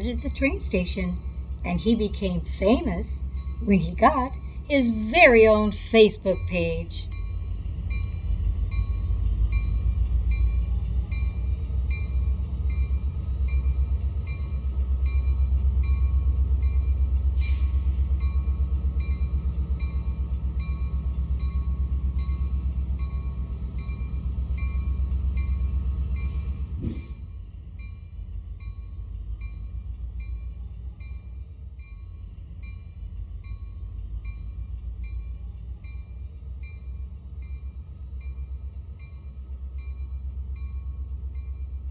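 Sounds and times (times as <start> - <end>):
train rumbling on track: 0.0 - 41.9.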